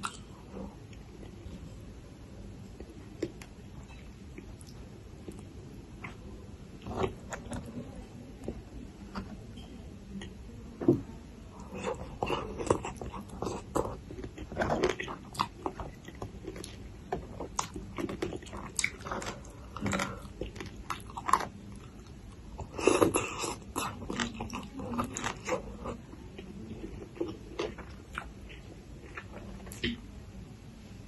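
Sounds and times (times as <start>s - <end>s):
crunching and chewing food: 0.0s - 1.8s, 2.7s - 9.4s, 10.2s - 30.0s.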